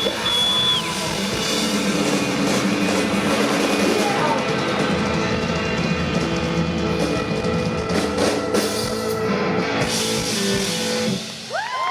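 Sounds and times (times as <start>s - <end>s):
electric guitars: 0.0s - 11.9s.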